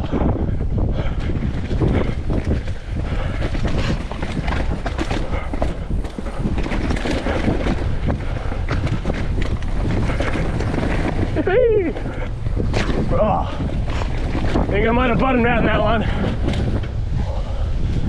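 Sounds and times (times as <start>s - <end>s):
bike rattling over rough ground: 0.0s - 18.0s
wind rumble on microphone: 0.0s - 18.0s.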